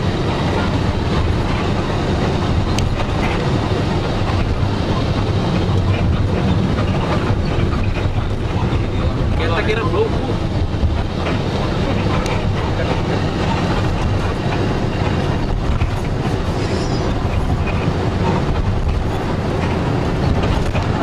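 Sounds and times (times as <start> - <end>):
motorboat engine rumbling: 0.0 - 21.0.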